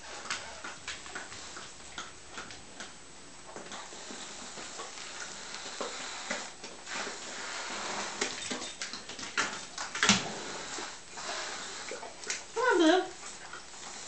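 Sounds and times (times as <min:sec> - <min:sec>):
dog licking: 0:00.0 - 0:14.0.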